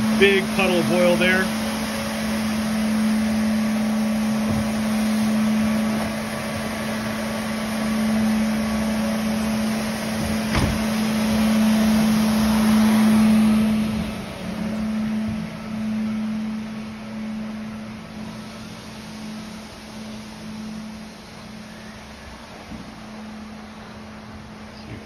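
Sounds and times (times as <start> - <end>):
floor scrubber motors humming: 0.0 - 25.0.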